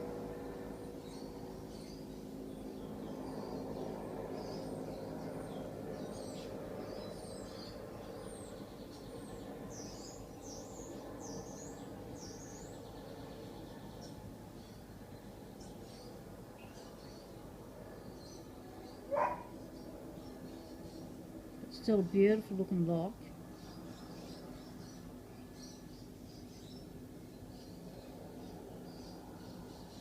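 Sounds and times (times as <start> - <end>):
birds chirping: 0.0 - 30.0
low hum: 0.0 - 30.0.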